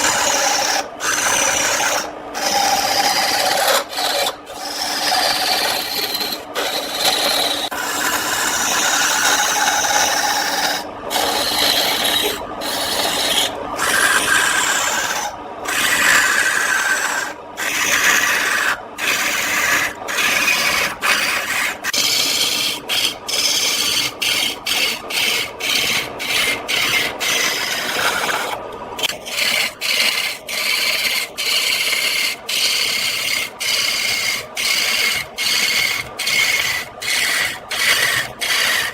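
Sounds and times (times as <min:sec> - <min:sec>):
lathe tool scraping wood: 0:00.0 - 0:38.9.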